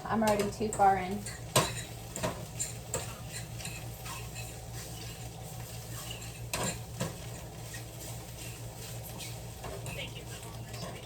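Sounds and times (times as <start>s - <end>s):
faint sizzle: 0.0s - 11.0s
utensil scraping frying pan: 0.1s - 11.0s.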